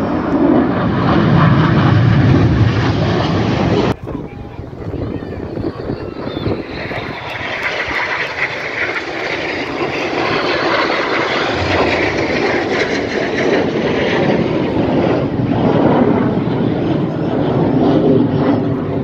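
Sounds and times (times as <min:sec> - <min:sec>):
jets roaring past: 0:00.0 - 0:19.0.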